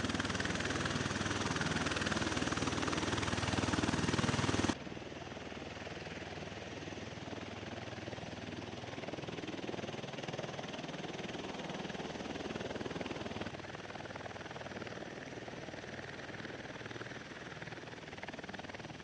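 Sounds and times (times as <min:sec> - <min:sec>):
aircraft rotors and engines running: 0:00.0 - 0:19.0.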